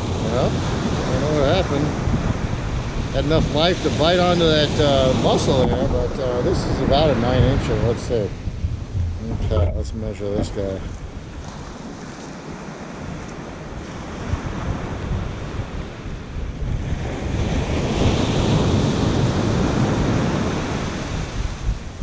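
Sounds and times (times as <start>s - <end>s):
ocean surf on sandy beach: 0.0s - 22.0s
wind rumbling on microphone: 0.0s - 22.0s.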